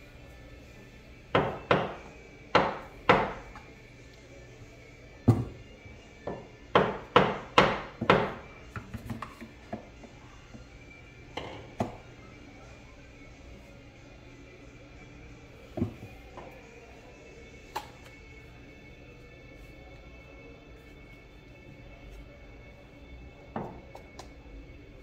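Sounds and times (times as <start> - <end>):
faint background music: 0.0 - 25.0.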